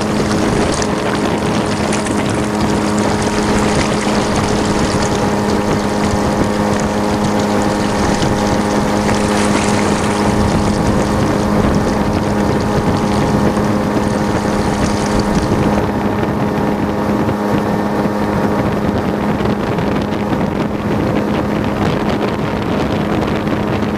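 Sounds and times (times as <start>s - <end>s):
boat motor running: 0.0s - 23.9s
wind on microphone: 0.0s - 23.9s.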